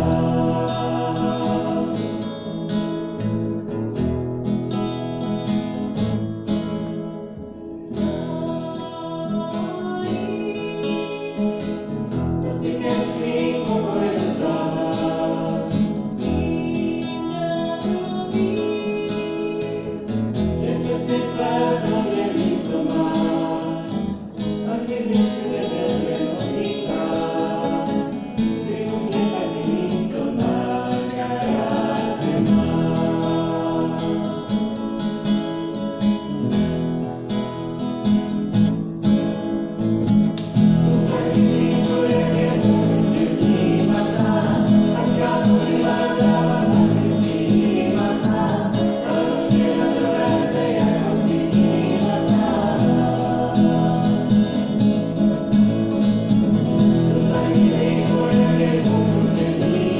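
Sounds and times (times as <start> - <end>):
church choir singing: 0.0 - 4.2, 7.9 - 36.2, 40.6 - 59.9
strummed acoustic guitar: 0.0 - 59.9.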